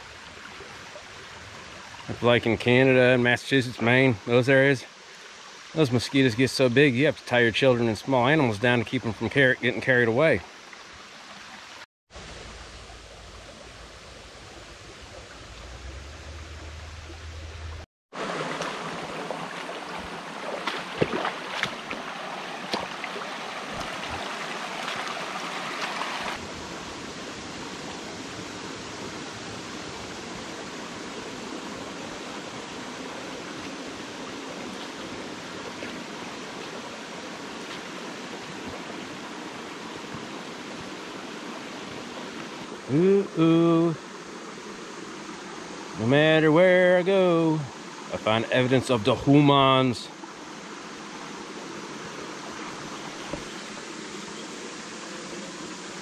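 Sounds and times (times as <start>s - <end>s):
creek water rushing over stones: 0.0s - 56.0s.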